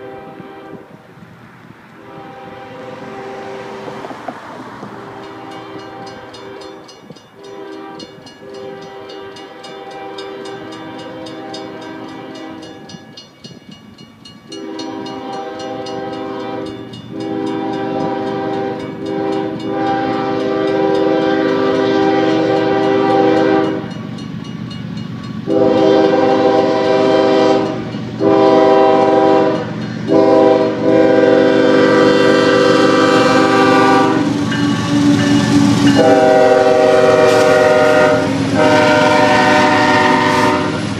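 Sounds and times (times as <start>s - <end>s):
locomotive air horn blasts: 0.0s - 1.0s, 2.0s - 13.2s, 14.5s - 24.0s, 25.4s - 40.9s
train engines and wheels rumbling: 0.0s - 40.9s.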